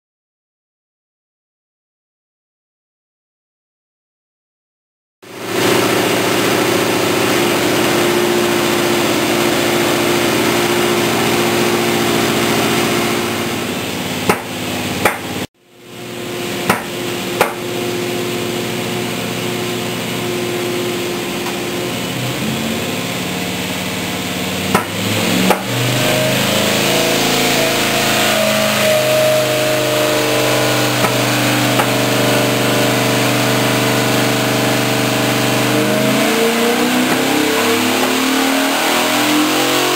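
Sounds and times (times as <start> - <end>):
car engine running: 5.2 - 39.9.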